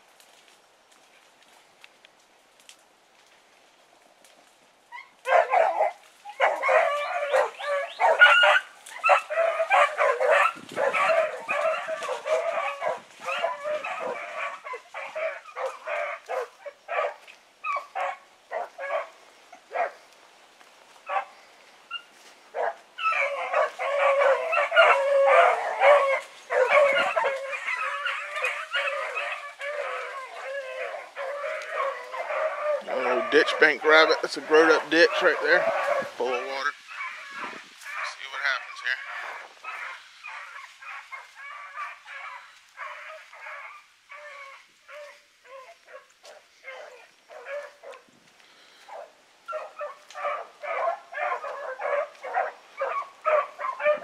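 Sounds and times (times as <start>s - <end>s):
dogs barking: 4.9s - 20.1s, 21.0s - 48.1s, 48.8s - 54.0s.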